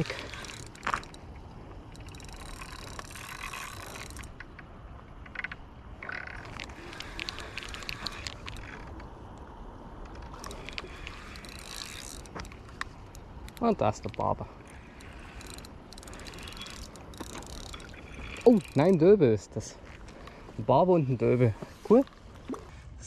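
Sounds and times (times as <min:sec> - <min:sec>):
fishing tackle handling noise: 0:00.0 - 0:22.7.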